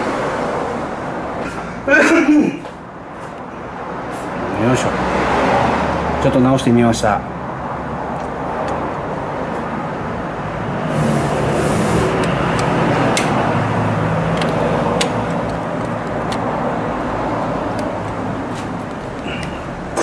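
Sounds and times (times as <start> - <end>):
motor vehicle noise: 0.0 - 20.0.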